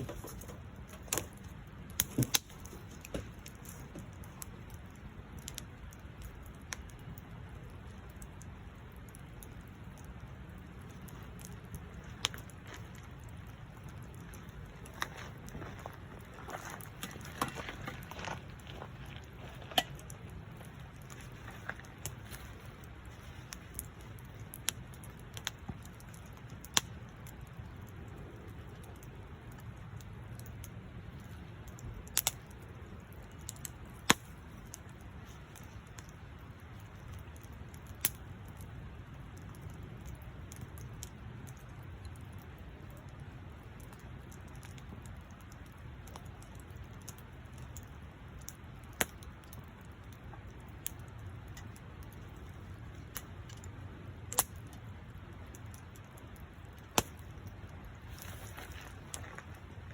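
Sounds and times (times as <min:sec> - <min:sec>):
campfire popping and cracking: 0:00.0 - 0:59.9.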